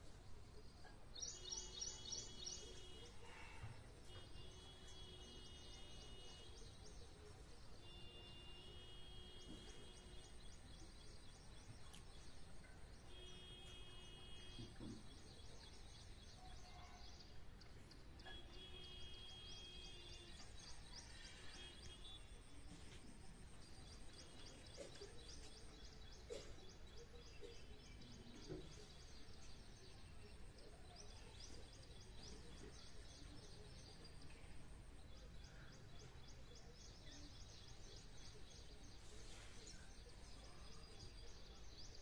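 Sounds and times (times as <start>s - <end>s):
quiet hiss: 0.0s - 42.0s.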